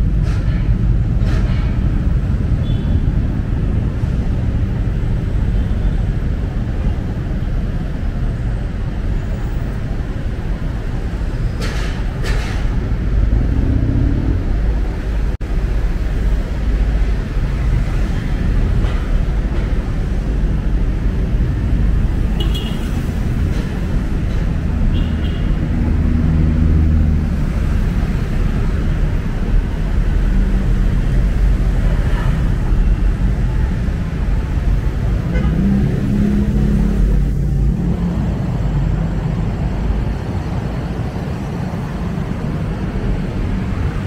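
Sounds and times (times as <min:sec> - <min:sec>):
cars and motorbikes passing: 0:00.0 - 0:44.0.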